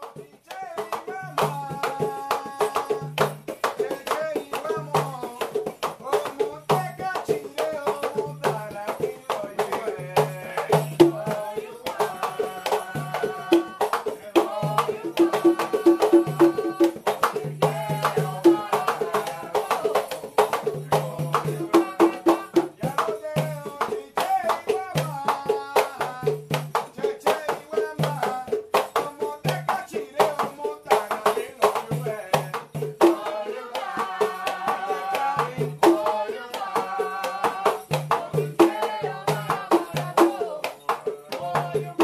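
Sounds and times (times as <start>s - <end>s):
hand drums playing fast rhythm: 0.0s - 42.0s
man singing: 0.0s - 42.0s.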